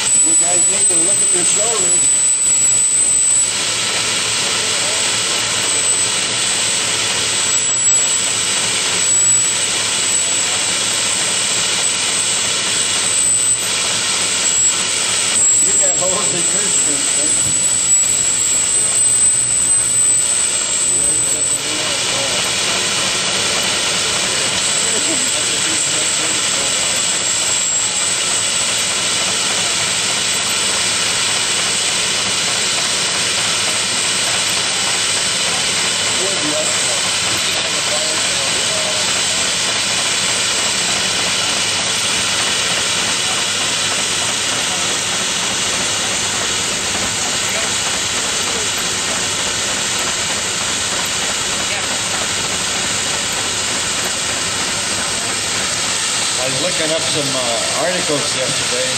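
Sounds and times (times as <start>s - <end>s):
rushing hiss of steam: 0.2s - 58.9s.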